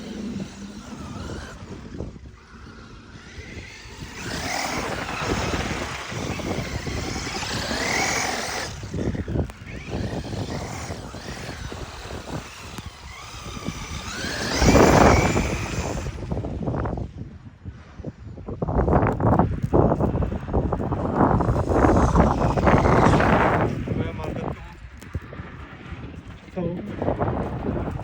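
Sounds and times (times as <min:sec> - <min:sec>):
toy car motor whining: 0:00.0 - 0:17.2, 0:19.1 - 0:25.2.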